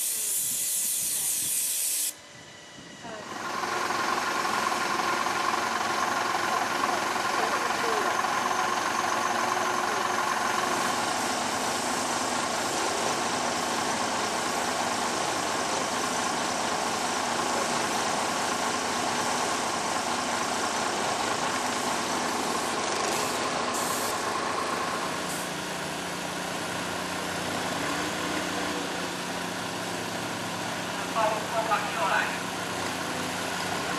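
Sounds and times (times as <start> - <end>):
crane engine running: 0.0 - 33.9.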